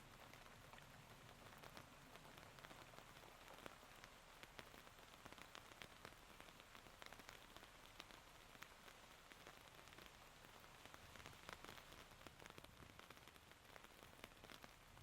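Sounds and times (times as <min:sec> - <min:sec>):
soft rain hiss: 0:00.0 - 0:15.0.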